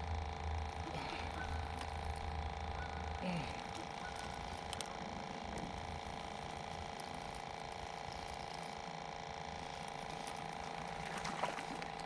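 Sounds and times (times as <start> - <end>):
fishing reel ratcheting whir: 0.0 - 12.0
mechanical hum: 0.0 - 12.0.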